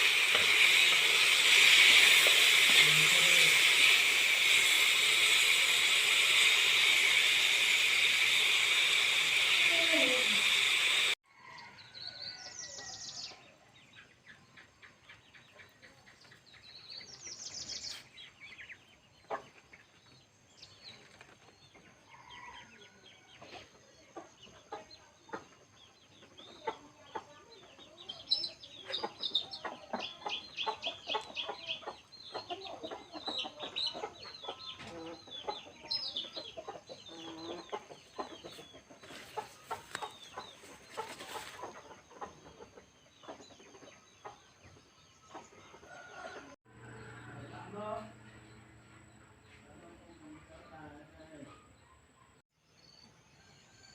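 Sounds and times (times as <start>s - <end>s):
chickens clucking: 0.0s - 11.7s, 13.4s - 46.6s.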